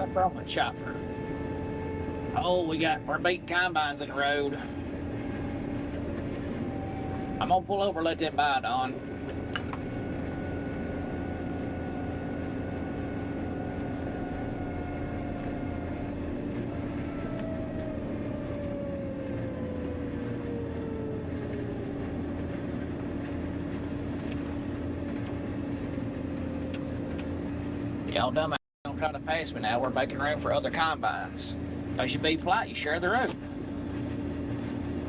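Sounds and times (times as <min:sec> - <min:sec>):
diesel engine drone: 0:00.0 - 0:35.0
whine sliding down in pitch: 0:00.0 - 0:35.0.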